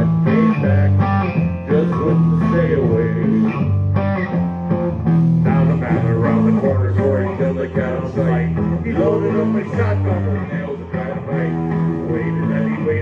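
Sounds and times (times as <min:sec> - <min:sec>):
guitar playing: 0:00.0 - 0:13.0
repeating bass line: 0:00.0 - 0:13.0.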